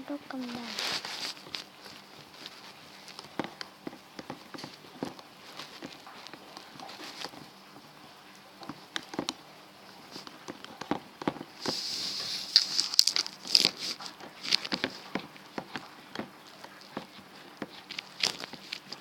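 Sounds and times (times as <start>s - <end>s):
spoon stirring sticky mixture: 0.1s - 19.0s.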